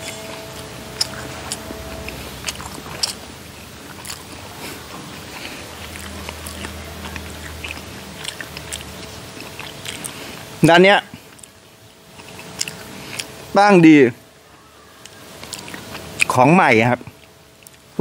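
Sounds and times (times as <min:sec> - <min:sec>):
person chewing food: 0:00.0 - 0:13.5, 0:14.4 - 0:16.4, 0:17.0 - 0:18.0.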